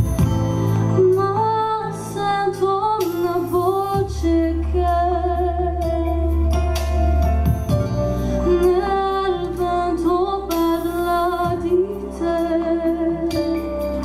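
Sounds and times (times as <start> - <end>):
backing track: 0.0 - 14.0
woman singing into a microphone: 0.9 - 6.8, 8.4 - 14.0.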